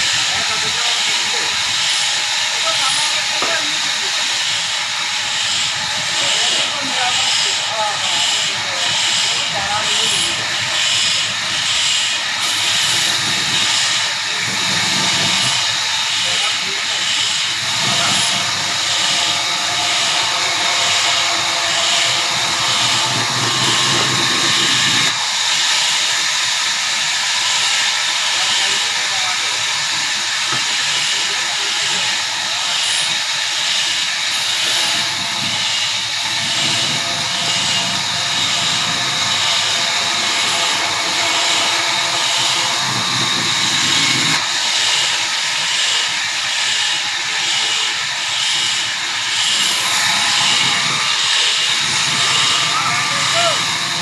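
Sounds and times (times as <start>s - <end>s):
saw cutting log hiss: 0.0s - 54.0s.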